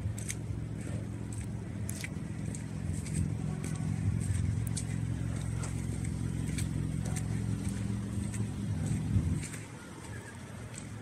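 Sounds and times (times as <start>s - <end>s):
car engine idling: 0.0s - 11.0s
footsteps crunching in snow: 0.0s - 11.0s.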